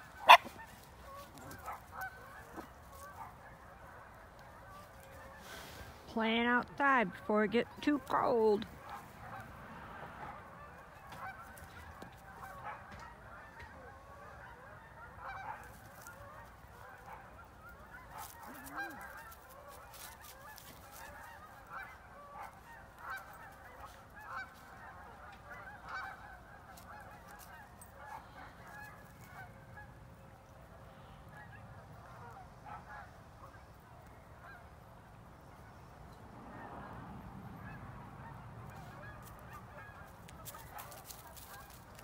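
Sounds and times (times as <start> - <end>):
geese honking: 0.0 - 9.6, 10.2 - 42.0.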